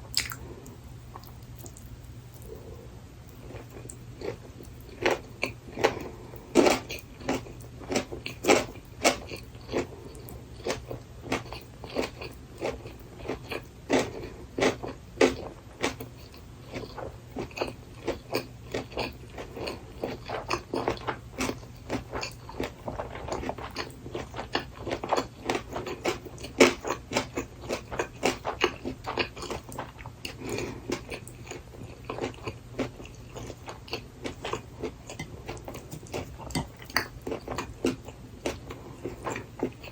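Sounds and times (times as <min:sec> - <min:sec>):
steady low hum: 0:00.0 - 0:39.9
close-miked chewing: 0:00.1 - 0:39.9.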